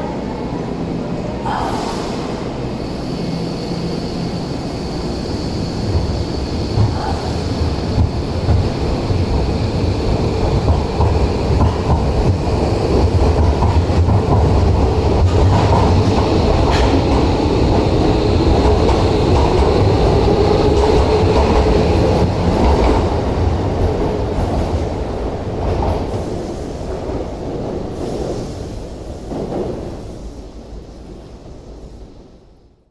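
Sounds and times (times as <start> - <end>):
electric train rumbling: 0.0 - 32.8.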